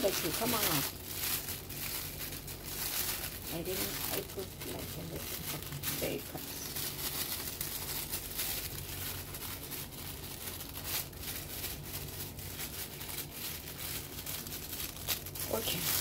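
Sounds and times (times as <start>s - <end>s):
low steady hum: 0.0s - 16.0s
spice shaker rattling: 0.0s - 16.0s.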